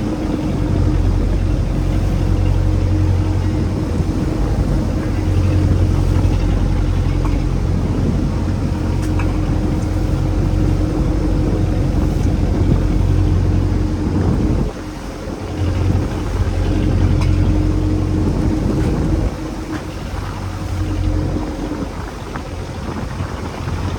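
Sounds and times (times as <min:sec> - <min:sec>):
boat engine drone: 0:00.0 - 0:23.9
water noise: 0:00.0 - 0:23.9
wind: 0:00.0 - 0:23.9.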